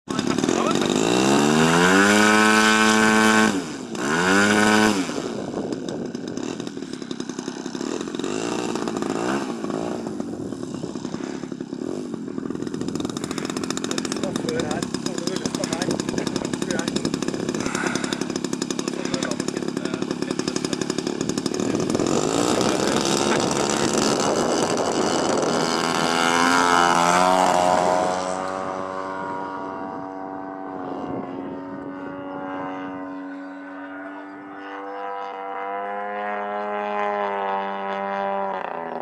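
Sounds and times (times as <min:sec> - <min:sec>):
model plane engine pulsing: 0:00.1 - 0:39.0.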